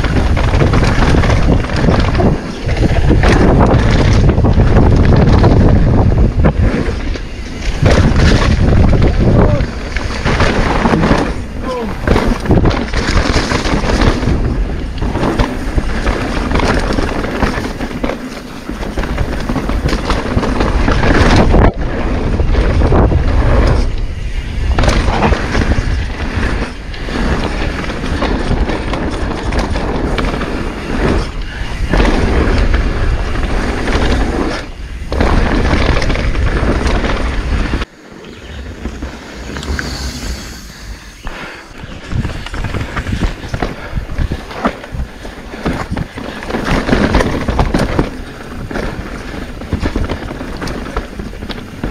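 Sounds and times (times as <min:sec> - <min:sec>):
bike tyres rolling over dirt: 0:00.0 - 0:51.9
wind on microphone: 0:00.0 - 0:51.9.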